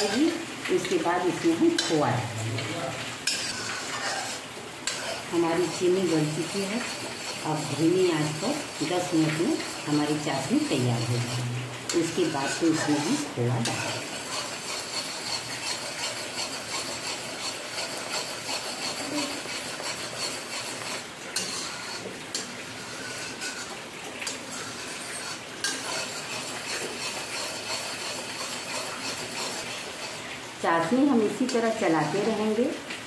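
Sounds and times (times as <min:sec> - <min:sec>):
syrup bubbling: 0:00.0 - 0:30.6
metal spatula scraping pan: 0:00.0 - 0:32.3.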